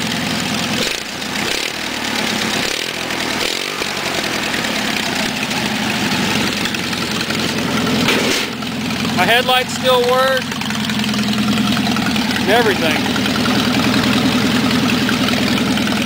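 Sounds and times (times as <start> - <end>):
garden tractor engine idling: 0.0 - 16.0.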